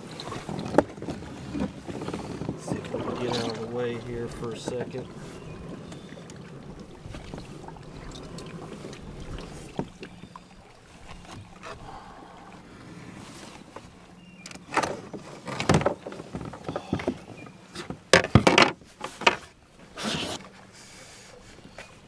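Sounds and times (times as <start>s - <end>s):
handling noises in kayak: 0.0s - 22.0s.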